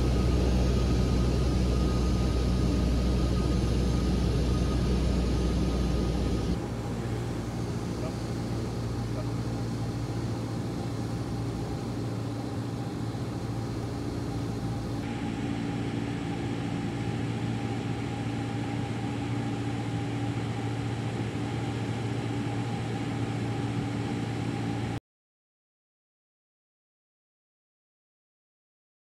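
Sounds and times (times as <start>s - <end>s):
light aircraft engine drone: 0.0s - 25.0s.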